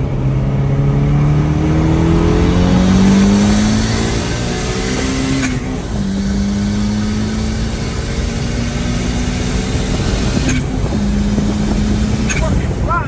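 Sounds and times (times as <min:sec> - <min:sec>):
road and wind rumble: 0:00.0 - 0:13.0
turbocharged car engine pulling: 0:00.0 - 0:13.0.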